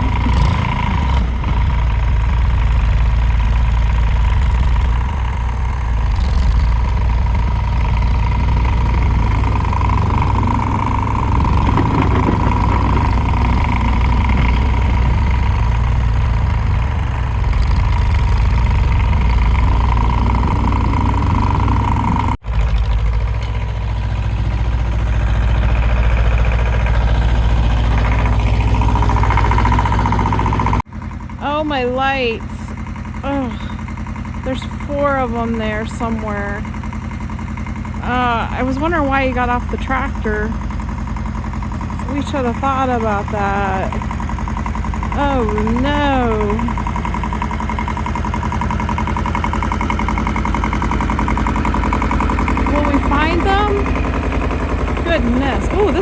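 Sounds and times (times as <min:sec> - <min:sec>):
tractor engine rumbling: 0:00.0 - 0:56.0.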